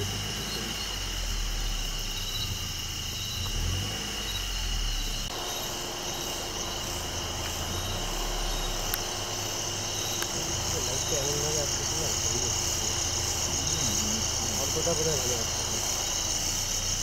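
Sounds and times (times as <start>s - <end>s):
crickets and insects chirping: 0.0s - 17.0s
vehicle engine idling: 0.0s - 17.0s.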